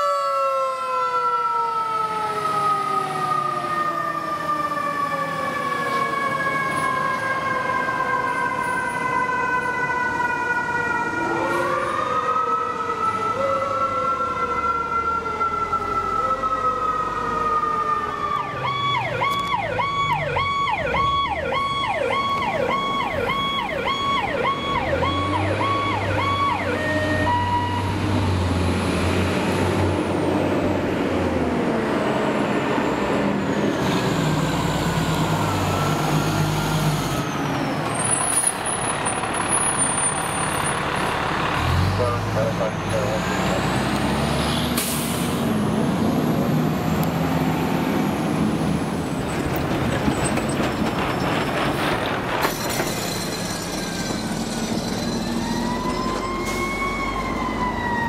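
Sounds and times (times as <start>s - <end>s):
fire truck siren wailing: 0.0s - 49.3s, 50.0s - 58.0s
truck engine rumbling: 3.7s - 58.0s.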